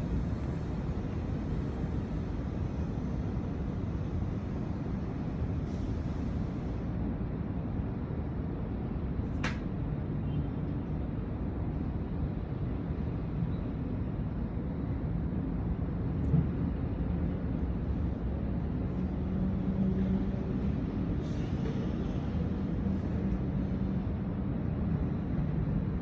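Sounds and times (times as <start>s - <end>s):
low city rumble: 0.0s - 26.0s.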